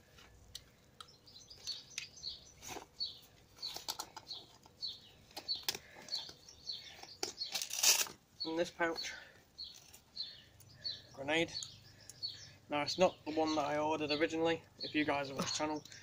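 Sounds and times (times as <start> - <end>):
small bird chirping: 0.6 - 16.0.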